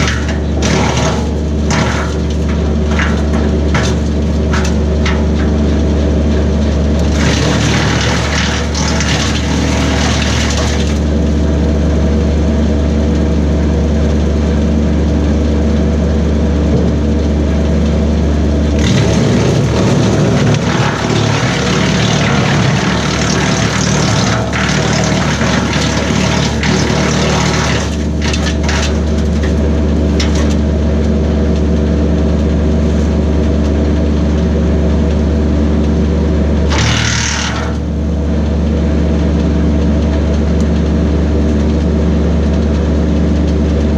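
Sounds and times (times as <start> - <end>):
wood chipper chipping branches: 0.0 - 41.9
tractor diesel engine running: 0.0 - 43.9.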